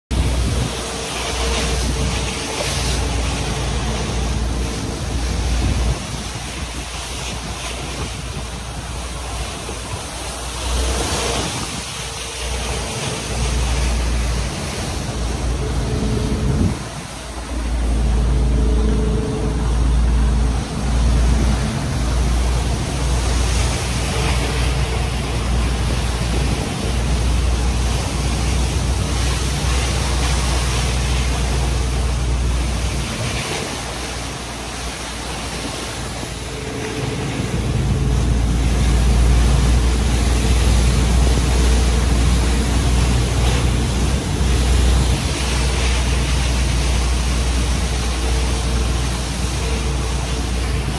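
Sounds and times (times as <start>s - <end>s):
boat engines droning: 0.1s - 50.9s
waves and spray hissing: 0.1s - 50.9s
wind buffeting microphone: 0.1s - 50.9s.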